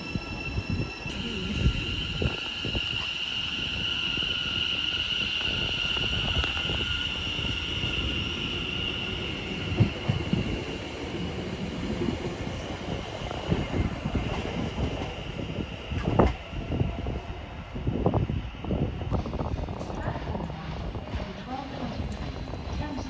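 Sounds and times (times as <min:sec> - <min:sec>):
high steady squeal: 0:00.0 - 0:19.6
train rumbling with wheel knocks: 0:00.0 - 0:23.0.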